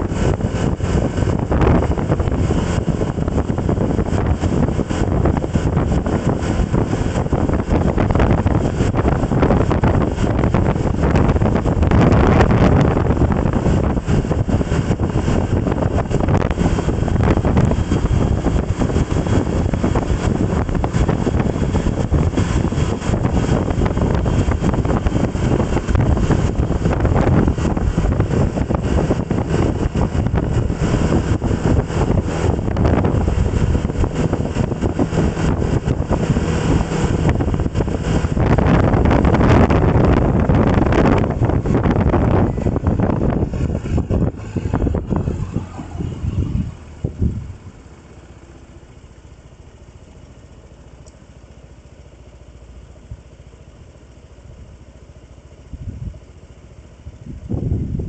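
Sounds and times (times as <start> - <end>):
wind rushing over microphone: 0.0 - 50.3, 55.6 - 58.0
vehicle and road noise: 0.0 - 58.0.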